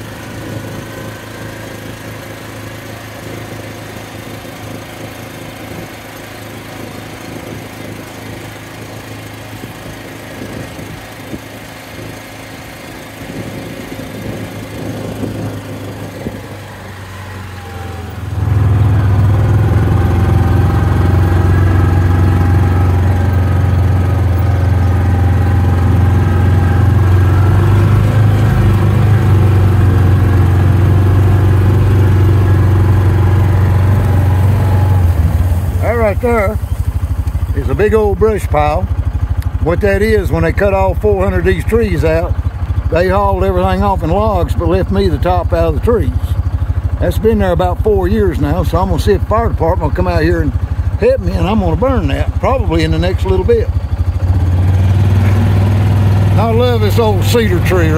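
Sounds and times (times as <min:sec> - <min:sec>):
utility vehicle engine droning: 0:00.0 - 0:57.9.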